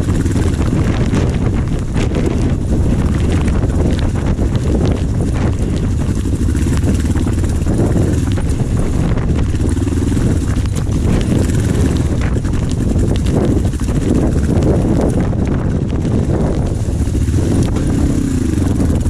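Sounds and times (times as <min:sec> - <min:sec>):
motorcycle engine running: 0:00.0 - 0:19.0
wheels knocking on stones: 0:00.0 - 0:19.0.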